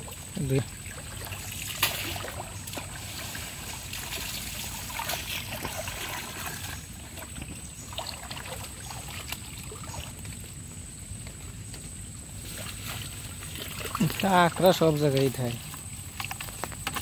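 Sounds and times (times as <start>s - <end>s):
water draining from net: 0.0s - 10.2s, 12.4s - 17.0s
small splashes: 0.0s - 10.5s, 12.4s - 17.0s
low steady rumble: 0.0s - 16.9s
muddy water sloshing: 0.0s - 17.0s.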